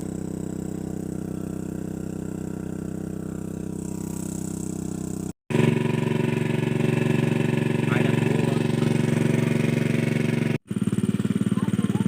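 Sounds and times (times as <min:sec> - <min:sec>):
engine-driven water pump running: 0:00.0 - 0:12.0.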